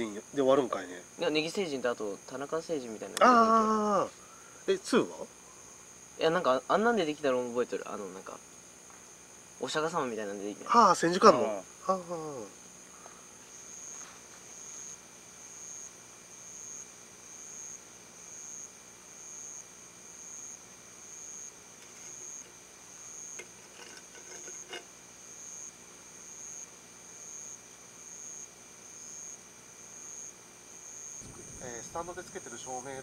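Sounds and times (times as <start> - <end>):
night insects chirping: 0.0 - 33.0.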